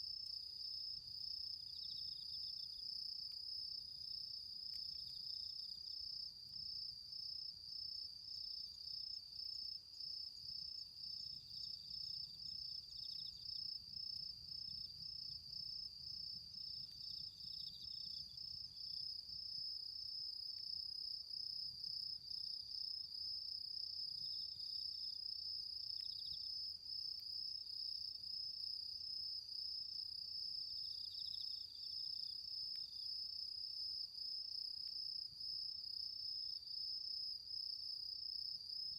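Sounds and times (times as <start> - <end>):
insect chirps: 0.0 - 38.9.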